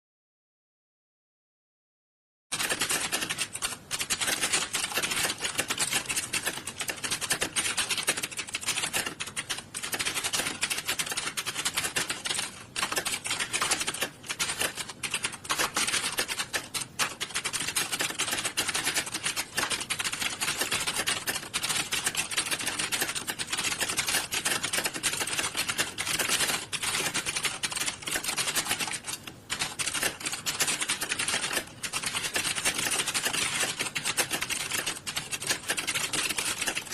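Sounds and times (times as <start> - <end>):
keyboards typing clatter: 2.5 - 36.9.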